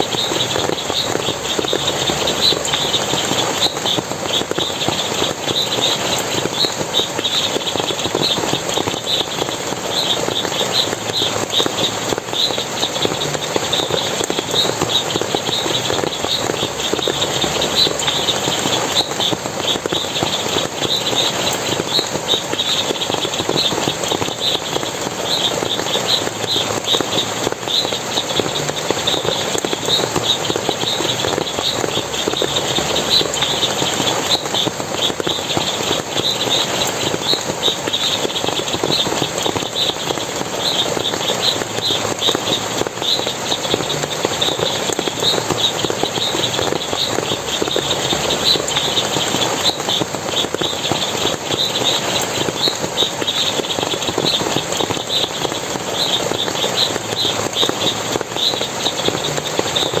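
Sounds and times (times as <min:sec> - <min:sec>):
water splashing: 0:00.0 - 1:00.0.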